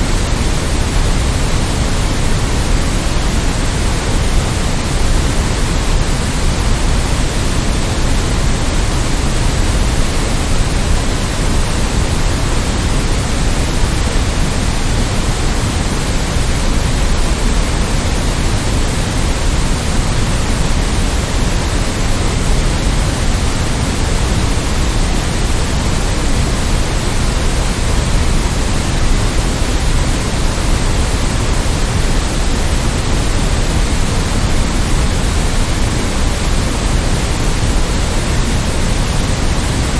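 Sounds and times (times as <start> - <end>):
steady synthetic noise hiss: 0.0 - 39.9.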